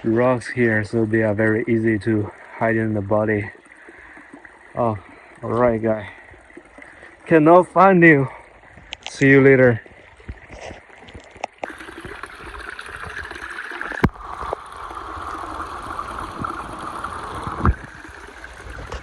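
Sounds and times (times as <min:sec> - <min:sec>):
stream gurgling over stones: 0:00.0 - 0:19.0.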